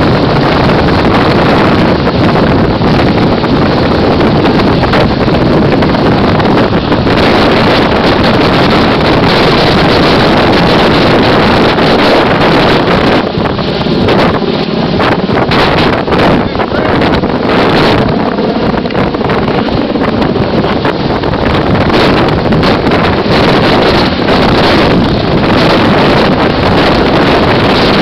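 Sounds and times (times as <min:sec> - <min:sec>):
helicopter rotor roar: 0:00.0 - 0:28.0
wind buffeting microphone: 0:00.0 - 0:28.0.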